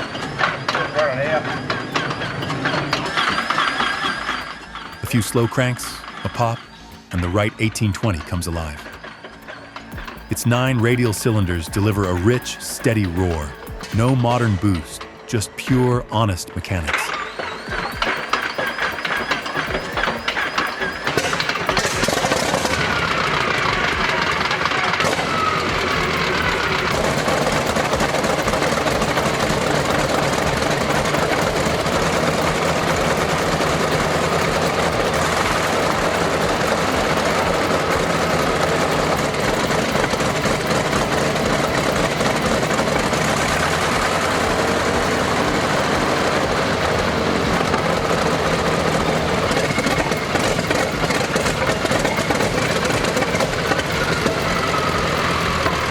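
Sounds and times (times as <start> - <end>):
engine whine: 0.0 - 55.9
radial aircraft engine running: 0.0 - 55.9.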